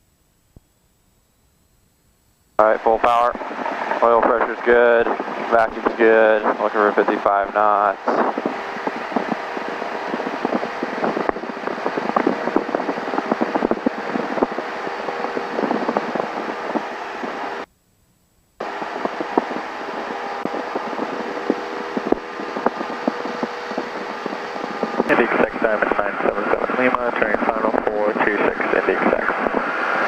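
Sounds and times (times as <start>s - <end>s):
airplane engine droning: 0.0s - 17.7s, 18.5s - 30.0s.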